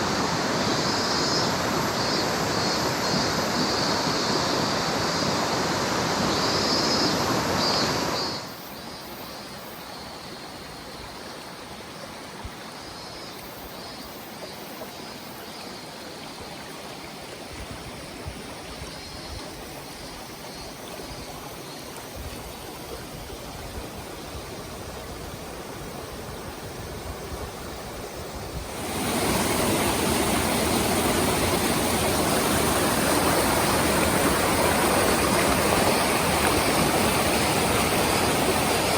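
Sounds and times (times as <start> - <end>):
rushing stream water: 0.0 - 38.9.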